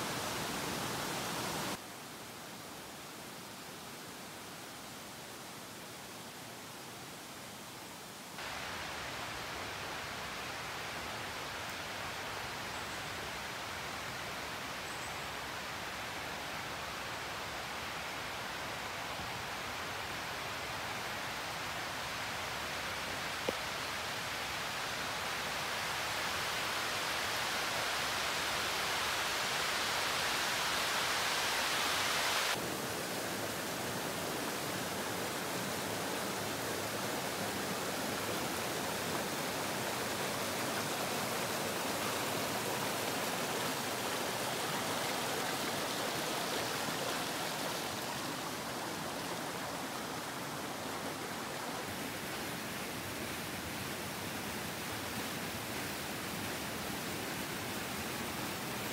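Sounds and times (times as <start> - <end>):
stream rushing over rocks: 0.0 - 58.9.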